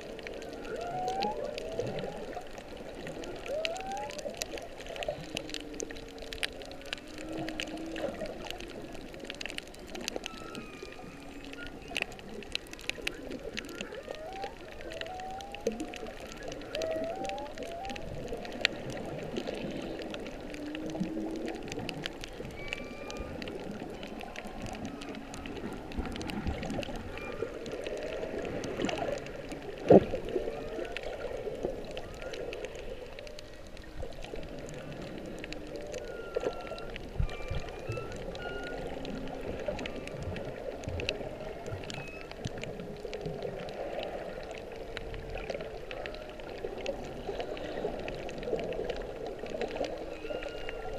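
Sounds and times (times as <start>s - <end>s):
crackling hiss of water: 0.0s - 50.9s
whale song underwater: 0.0s - 50.9s.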